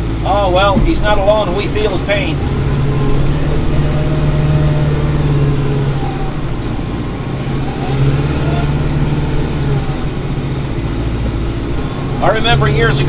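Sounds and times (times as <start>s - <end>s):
tractor engine and snowblower drone: 0.0s - 13.0s.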